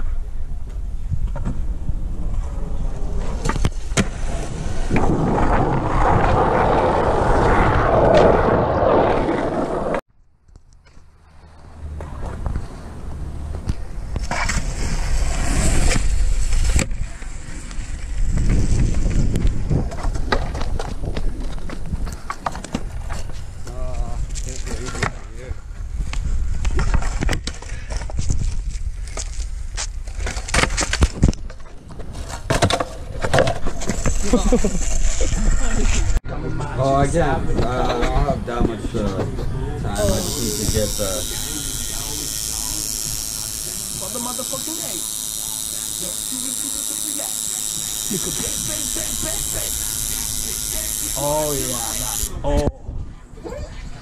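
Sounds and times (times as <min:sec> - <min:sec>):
skateboard wheels rolling on concrete: 0:00.0 - 0:46.2.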